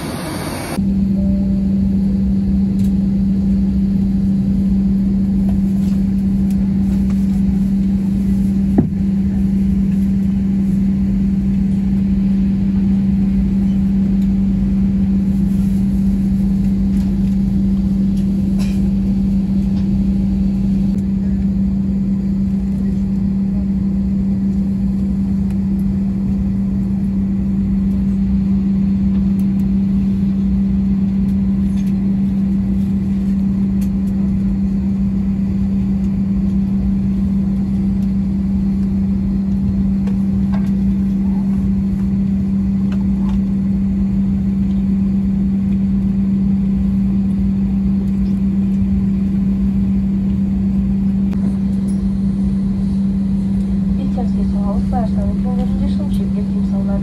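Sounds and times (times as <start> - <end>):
aircraft cabin hum: 0.0 - 57.0
low rumble: 0.0 - 57.0.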